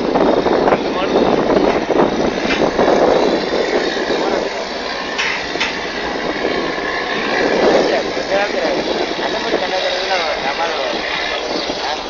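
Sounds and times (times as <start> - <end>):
motorboat engine running: 0.0 - 12.0
wind and water: 0.0 - 12.0.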